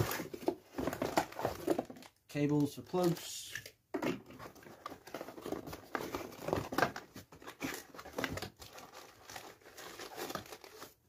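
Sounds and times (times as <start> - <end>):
packaging crinkling and rustling: 0.0 - 3.4, 4.3 - 11.0.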